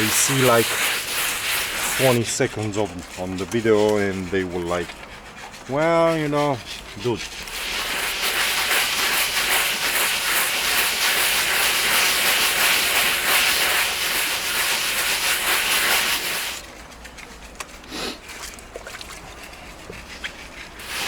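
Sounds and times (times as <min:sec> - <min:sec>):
hand tool rasping on mortar: 0:00.0 - 0:16.7, 0:19.4 - 0:21.0.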